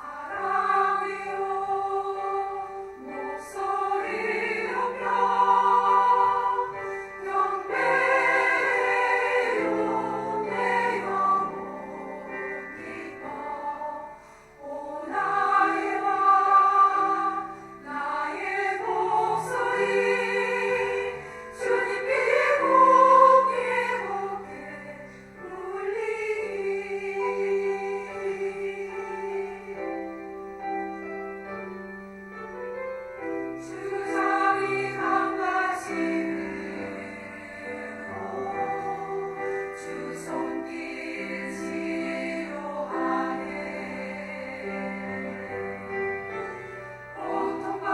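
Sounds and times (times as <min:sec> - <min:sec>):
women's choir singing a hymn: 0:00.0 - 0:31.9, 0:33.2 - 0:47.9
piano accompaniment: 0:00.0 - 0:47.9.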